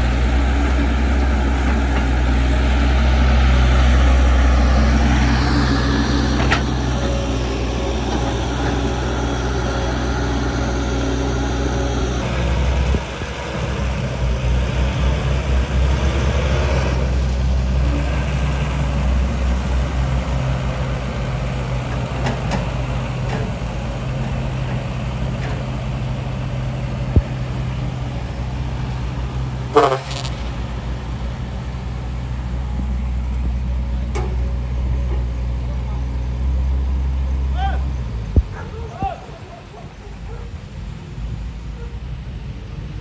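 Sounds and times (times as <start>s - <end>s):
heavy diesel engine humming: 0.0s - 43.0s.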